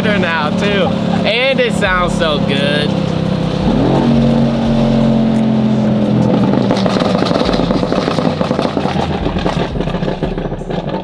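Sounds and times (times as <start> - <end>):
car exhaust roaring: 0.0 - 11.0.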